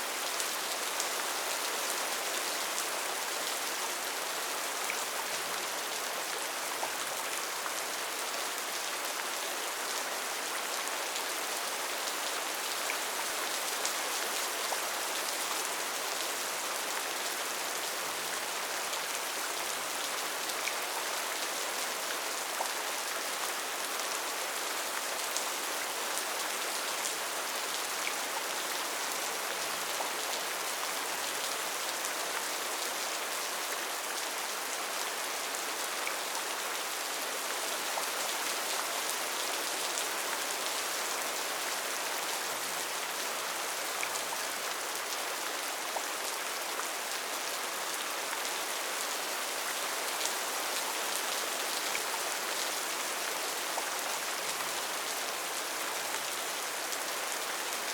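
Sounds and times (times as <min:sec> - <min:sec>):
rain on foliage: 0:00.0 - 0:57.9.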